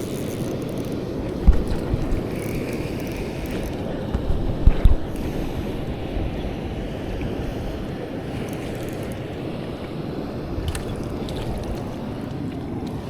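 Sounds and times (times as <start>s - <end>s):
stream water flowing: 0.0s - 13.0s
wind on microphone: 0.0s - 13.0s.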